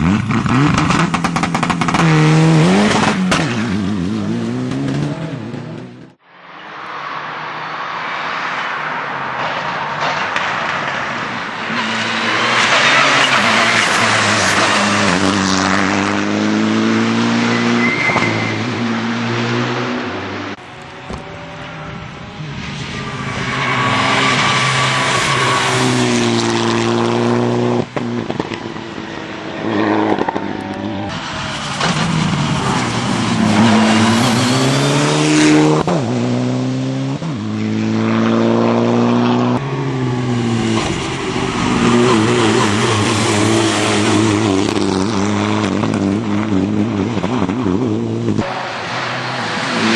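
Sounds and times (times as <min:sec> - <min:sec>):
rally car engine revving: 0:00.0 - 0:06.2, 0:11.1 - 0:49.9
tyre and road noise: 0:00.0 - 0:49.9.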